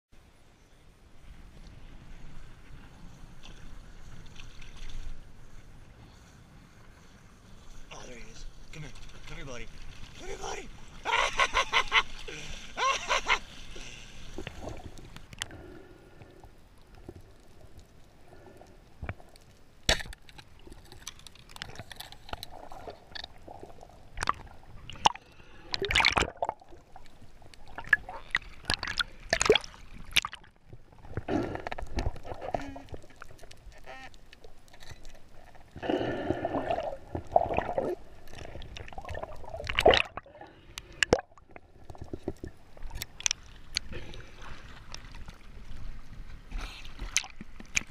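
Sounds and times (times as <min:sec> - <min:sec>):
water sloshing and gurgling: 0:01.8 - 0:47.9.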